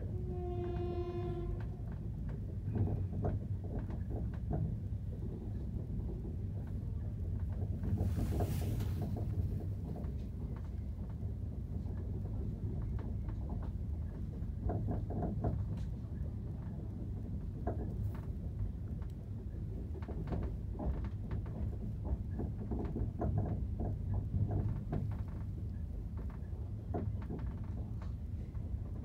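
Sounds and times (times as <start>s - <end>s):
train rumble inside carriage: 0.0s - 29.0s.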